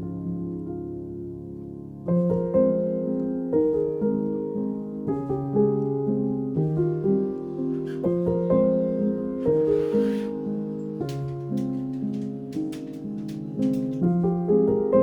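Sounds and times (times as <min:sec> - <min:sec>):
piano melody with held chords: 0:00.0 - 0:15.0.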